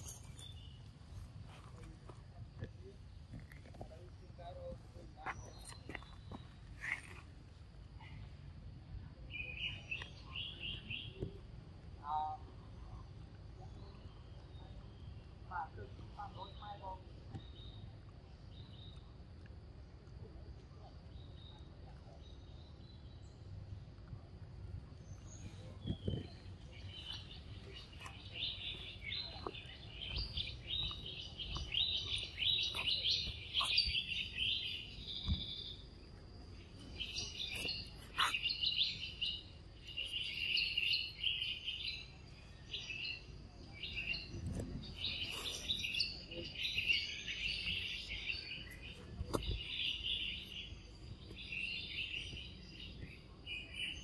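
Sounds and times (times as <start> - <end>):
birds chirping and twittering: 0.0 - 19.8, 20.5 - 54.0.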